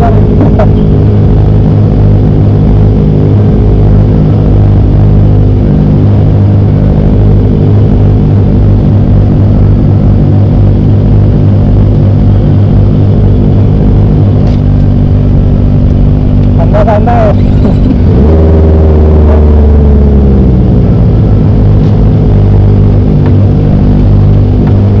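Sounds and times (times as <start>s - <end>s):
motorcycle engine running steadily: 0.0s - 25.0s.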